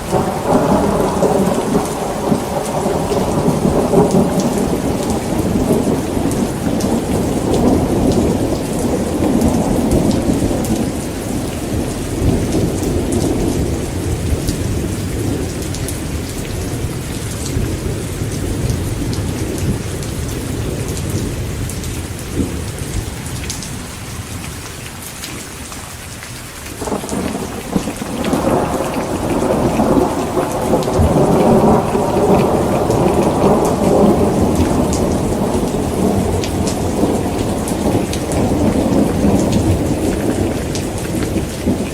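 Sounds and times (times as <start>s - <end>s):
rolling thunder: 0.0s - 23.4s, 26.8s - 41.9s
heavy rain: 0.0s - 41.9s.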